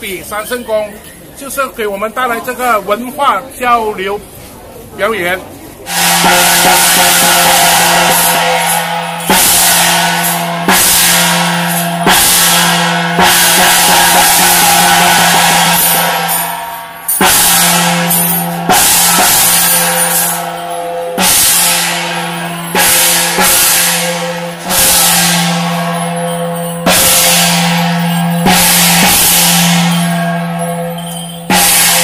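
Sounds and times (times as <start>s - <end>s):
hand gong struck: 5.9s - 32.0s.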